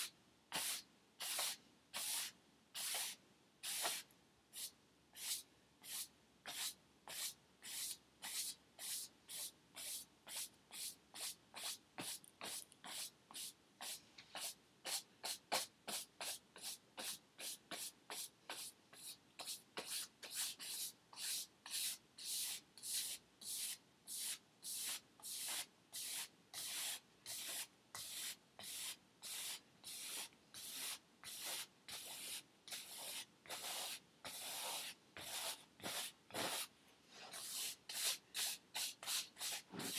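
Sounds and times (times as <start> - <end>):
paintbrush scrubbing on canvas: 4.6 - 39.9.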